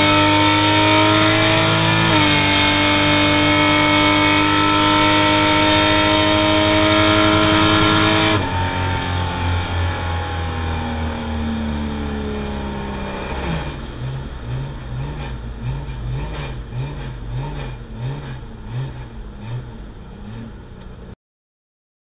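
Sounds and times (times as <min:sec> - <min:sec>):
car engine heard from inside: 0:00.0 - 0:21.2.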